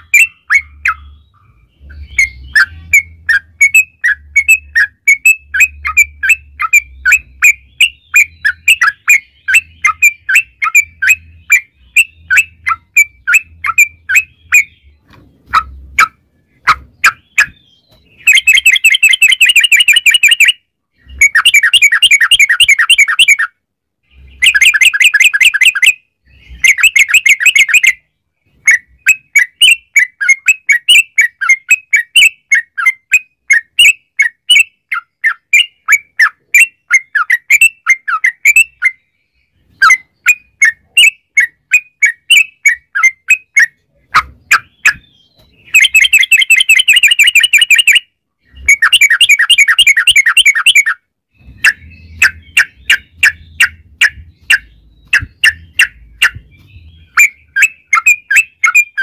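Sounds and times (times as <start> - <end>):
bird trilling: 0.0 - 28.1, 28.7 - 59.0
bird chirping notes: 0.0 - 59.0.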